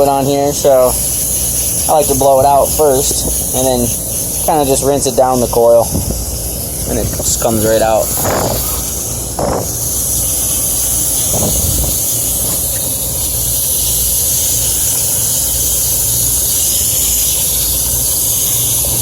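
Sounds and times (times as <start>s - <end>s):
hose spray hissing: 0.0s - 19.0s
low steady hum: 0.0s - 19.0s.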